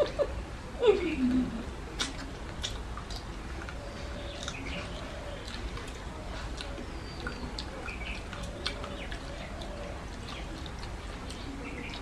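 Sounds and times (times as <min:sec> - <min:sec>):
wet chewing and lip-smacking: 0:01.9 - 0:12.0.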